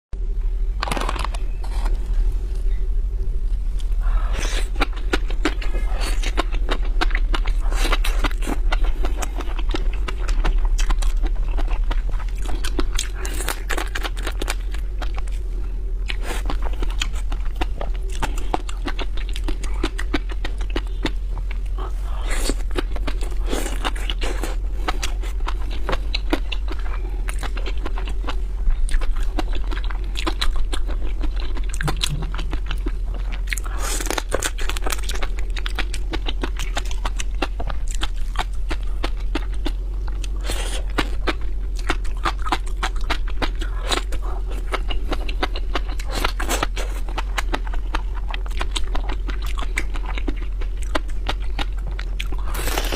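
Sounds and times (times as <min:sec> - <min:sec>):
low hum: 0:00.1 - 0:52.9
seafood crackling being eaten: 0:03.7 - 0:52.9.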